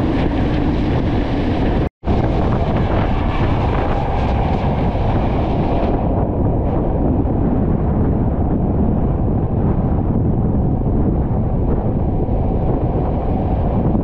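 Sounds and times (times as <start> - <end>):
train carriage rumbling on rails: 0.0 - 14.0
wind buffeting microphone: 0.0 - 14.0.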